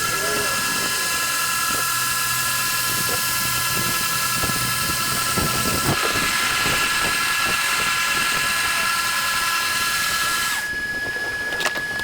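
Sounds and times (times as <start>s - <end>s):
power sander whining: 0.0s - 12.0s.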